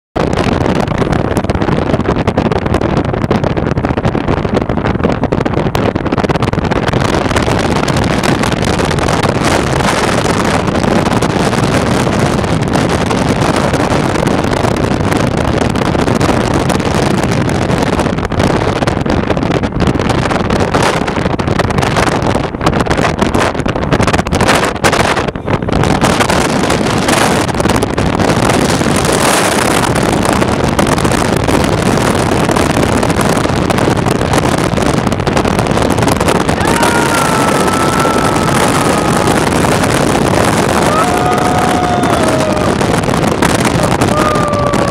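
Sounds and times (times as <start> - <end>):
car road noise at speed: 0.2 - 44.9
wind buffeting microphone: 0.2 - 44.9.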